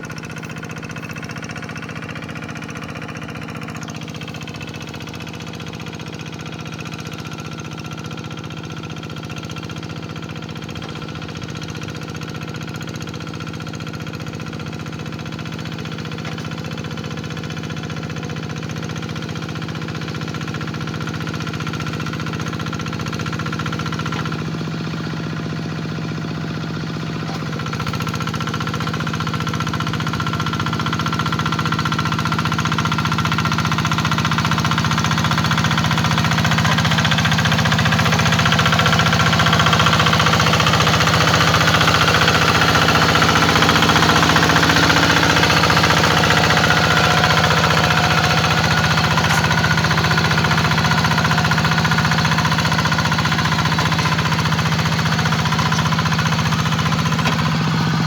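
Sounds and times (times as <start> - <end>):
hand tractor engine running: 0.0 - 58.0.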